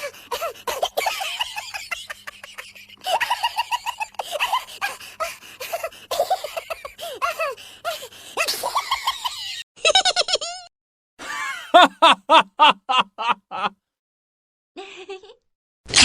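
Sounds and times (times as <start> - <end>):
person laughing: 0.0 - 7.6, 8.4 - 13.8, 14.8 - 15.4.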